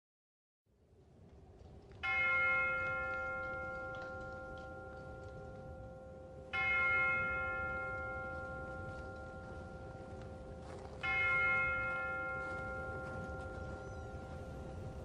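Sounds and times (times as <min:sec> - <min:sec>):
deep bell ringing: 0:02.0 - 0:15.0.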